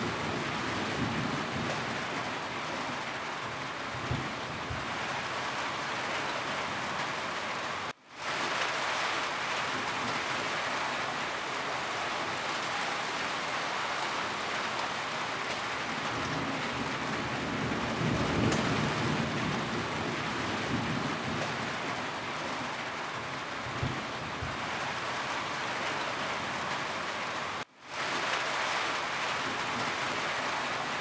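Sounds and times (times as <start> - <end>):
rain on a roof: 0.0 - 31.0.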